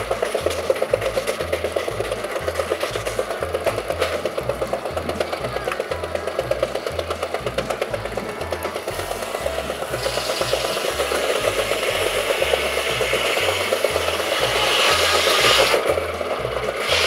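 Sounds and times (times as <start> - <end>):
saw blade cutting log: 0.0 - 17.0
steam engine exhaust beat: 0.0 - 17.0.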